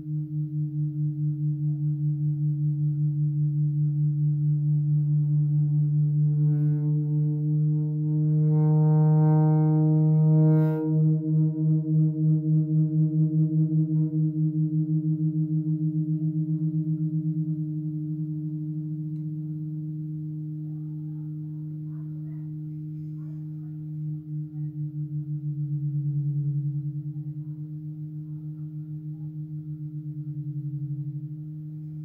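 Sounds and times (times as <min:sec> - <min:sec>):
pulsing feedback drone: 0:00.0 - 0:32.0.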